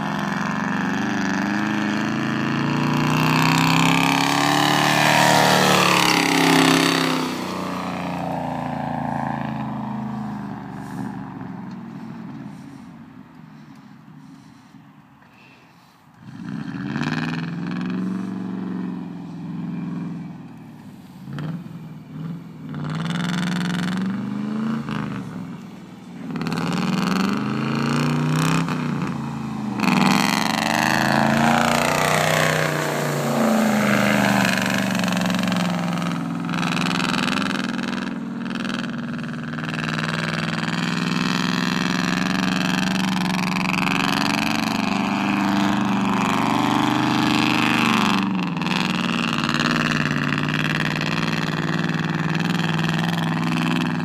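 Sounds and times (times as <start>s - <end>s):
truck engine revving: 0.0s - 14.7s, 15.8s - 54.0s.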